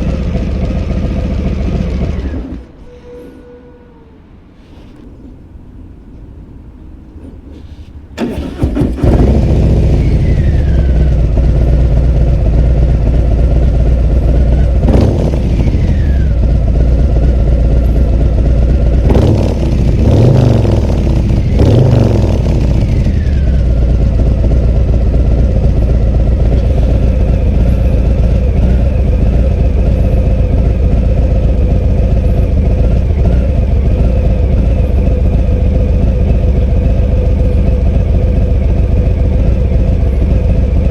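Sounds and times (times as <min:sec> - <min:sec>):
motorcycle engine idling: 0:00.0 - 0:02.8, 0:08.2 - 0:40.9
motorcycle throttle blips: 0:08.2 - 0:40.9.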